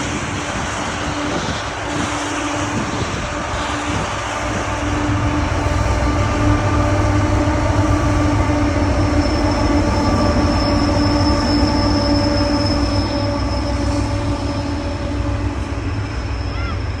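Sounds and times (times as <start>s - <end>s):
freight train rumbling: 0.0s - 17.0s
high wheel squeal: 2.8s - 17.0s.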